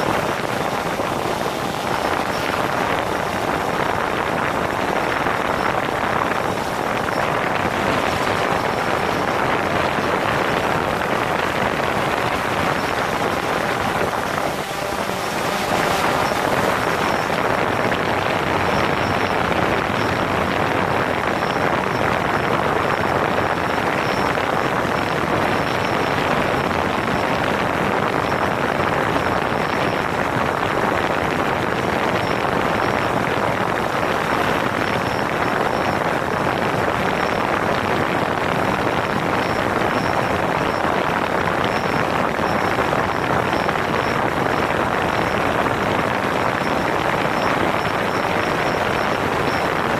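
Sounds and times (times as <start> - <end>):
drone propellers and motors: 0.0 - 49.9.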